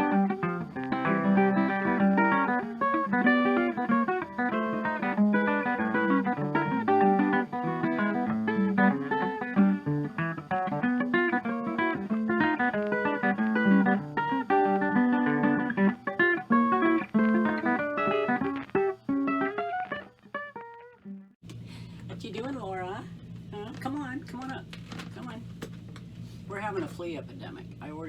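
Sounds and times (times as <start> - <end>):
acoustic guitar playing: 0.0 - 25.4.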